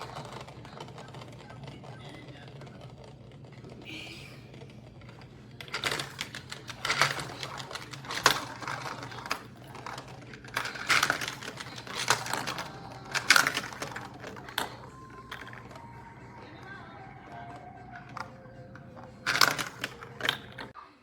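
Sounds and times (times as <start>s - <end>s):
marbles rattling down plastic run: 0.0s - 20.8s.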